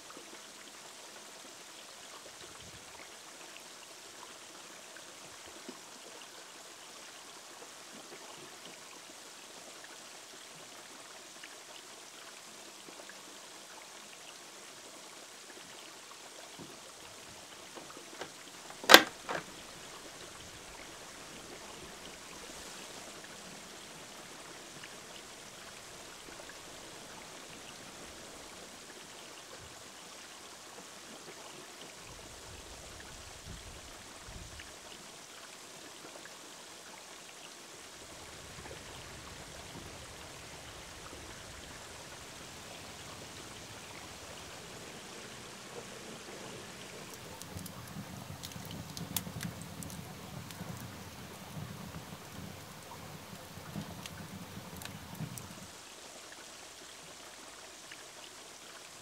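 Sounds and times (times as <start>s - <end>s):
water trickling from small waterfall: 0.0s - 59.0s.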